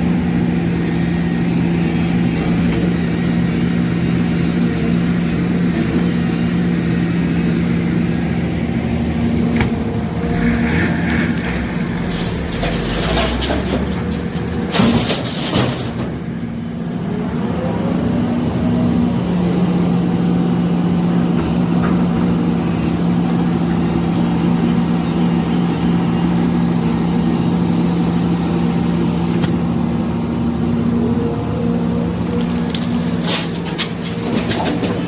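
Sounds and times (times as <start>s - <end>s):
backhoe diesel engine running: 0.0s - 35.0s.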